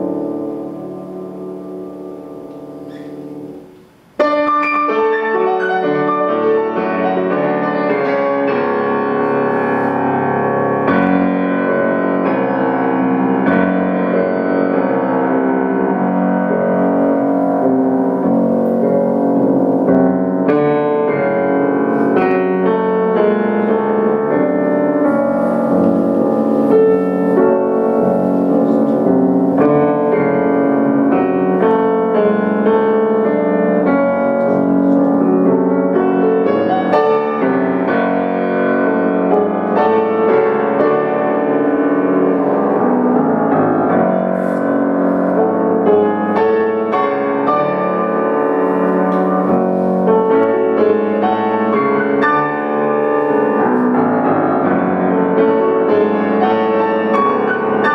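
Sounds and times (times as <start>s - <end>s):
grand piano chords: 0.0s - 57.9s.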